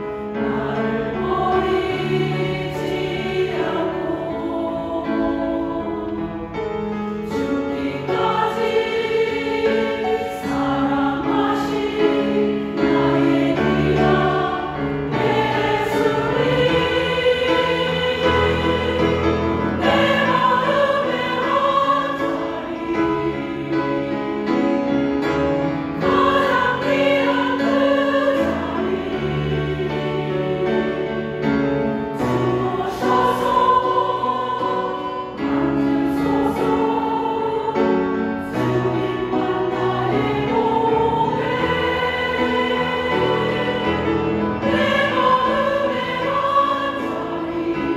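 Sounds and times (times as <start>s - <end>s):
grand piano accompaniment: 0.0s - 47.9s
women's choir singing: 0.0s - 47.9s.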